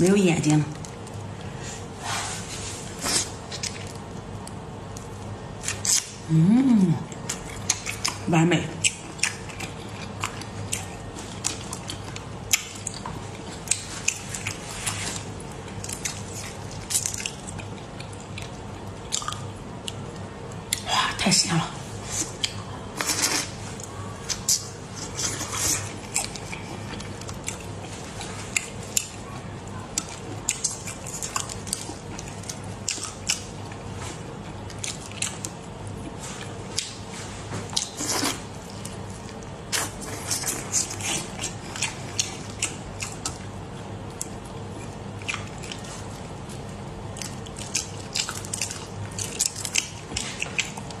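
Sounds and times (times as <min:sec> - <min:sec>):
faint low hum: 0:00.0 - 0:51.0
wet chewing and smacking: 0:03.2 - 0:06.2, 0:07.1 - 0:20.8, 0:22.2 - 0:51.0.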